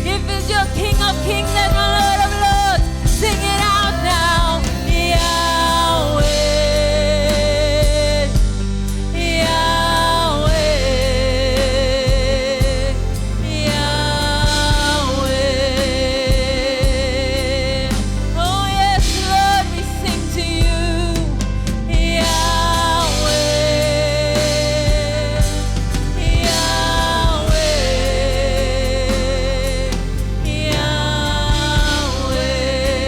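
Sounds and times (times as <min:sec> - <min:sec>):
band accompaniment: 0:00.0 - 0:33.0
person singing with vibrato: 0:00.0 - 0:33.0.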